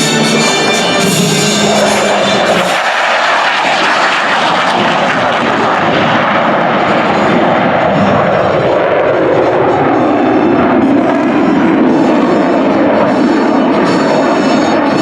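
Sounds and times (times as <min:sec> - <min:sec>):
jet engines roaring past: 0:00.0 - 0:15.0.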